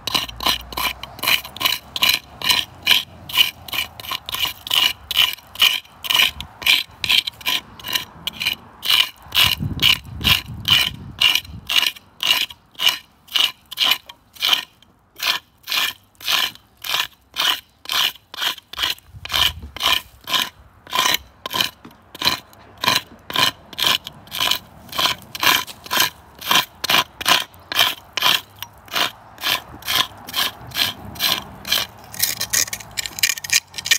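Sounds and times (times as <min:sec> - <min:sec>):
metal scraper scraping tree bark: 0:00.0 - 0:33.9.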